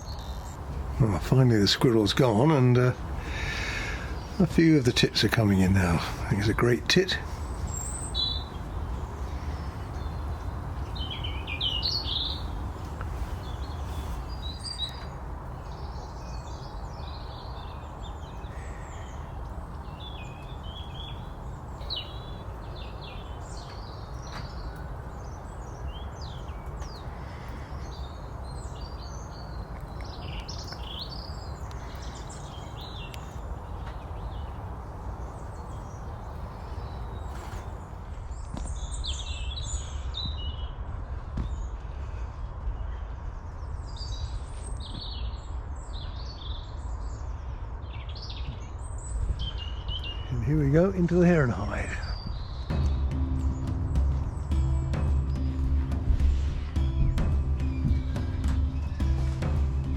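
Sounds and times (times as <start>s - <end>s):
steady low rumble: 0.0s - 41.5s, 51.3s - 59.9s
songbirds chirping and twittering: 0.0s - 59.9s.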